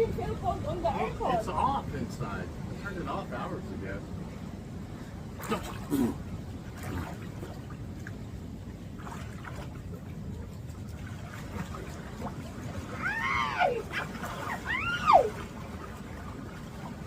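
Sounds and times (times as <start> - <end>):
rain and running water: 0.0 - 17.0.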